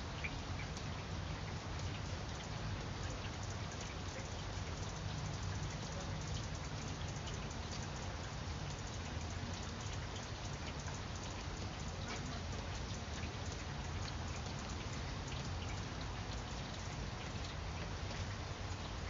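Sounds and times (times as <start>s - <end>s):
rain pattering on leaves: 0.0s - 19.0s.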